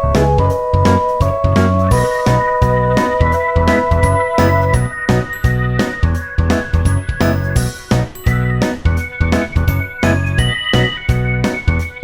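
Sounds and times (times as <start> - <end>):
keyboard tune over beat: 0.0 - 12.0.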